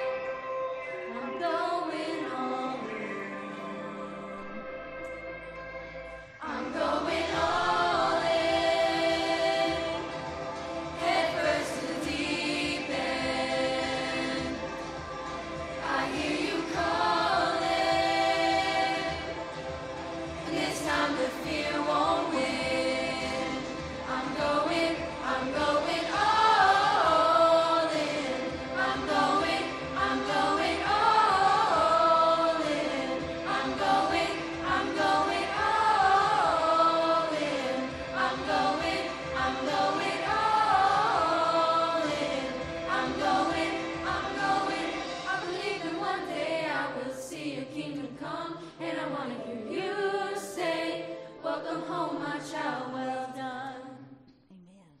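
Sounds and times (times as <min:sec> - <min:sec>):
choir singing worship song: 0:00.0 - 0:05.6, 0:06.2 - 0:54.2.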